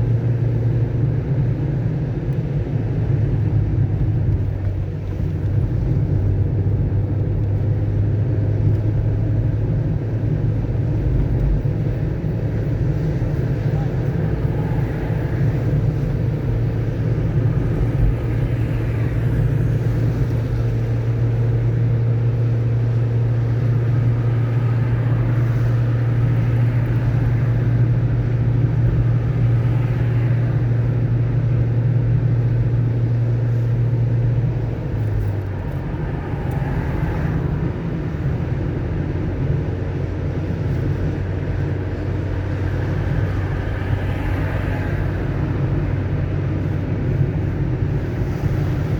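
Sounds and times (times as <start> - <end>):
car engine and road drone: 0.0 - 48.9.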